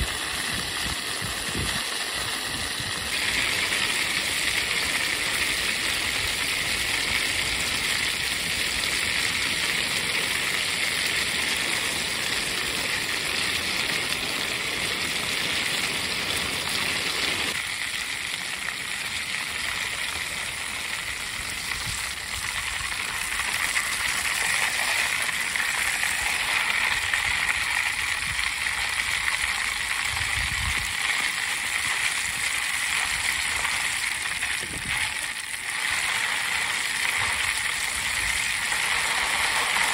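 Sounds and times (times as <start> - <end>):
berries sizzling in hot oil: 0.0 - 39.9.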